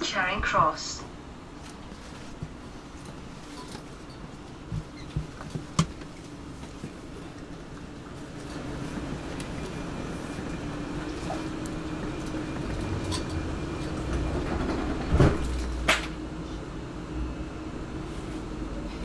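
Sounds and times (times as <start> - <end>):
train carriage rumble and hum: 0.0 - 19.0.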